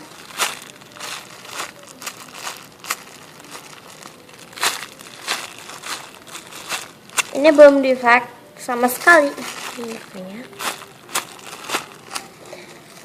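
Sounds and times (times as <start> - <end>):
squishy toy crinkling: 0.0 - 8.0, 8.9 - 13.0.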